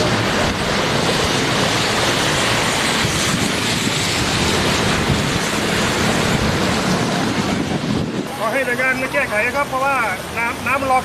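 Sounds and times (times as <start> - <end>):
water rushing on flooded road: 0.0 - 11.0.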